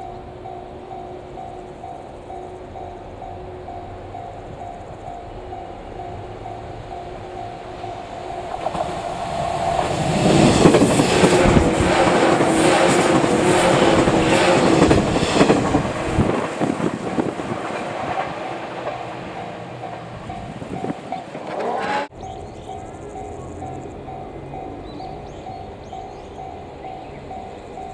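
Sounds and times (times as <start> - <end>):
level crossing warning bell: 0.0 - 9.1, 9.7 - 27.9
electric train passing: 0.0 - 27.9
wheels clattering over rail joints: 1.2 - 27.9.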